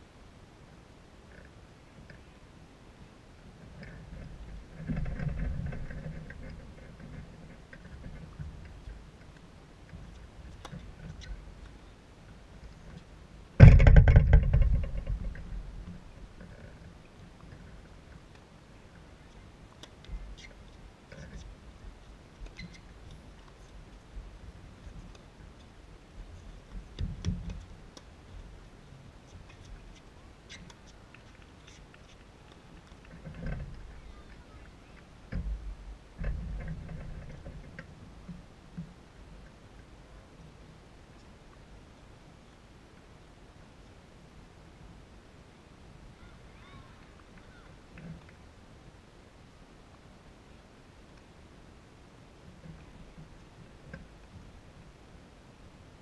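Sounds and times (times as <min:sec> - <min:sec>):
low outdoor rumble: 0:00.0 - 0:56.0.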